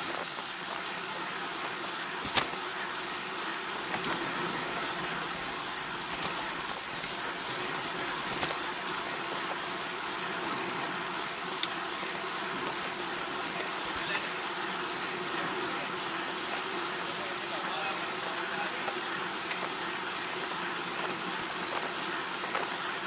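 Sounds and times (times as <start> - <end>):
vehicle road noise: 0.0 - 23.0.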